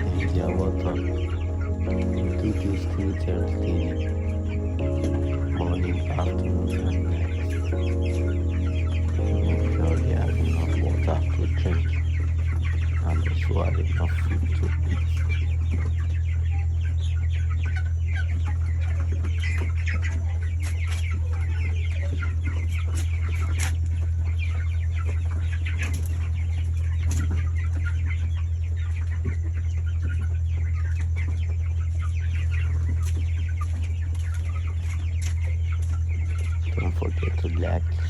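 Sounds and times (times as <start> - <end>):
chickens peeping and clucking: 0.0 - 38.0
loud low hum: 0.0 - 38.0.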